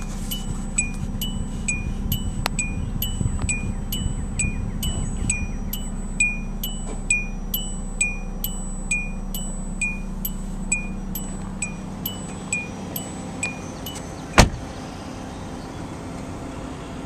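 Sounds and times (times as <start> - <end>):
car warning chime pinging: 0.0 - 14.5
steady low hum: 0.0 - 17.0.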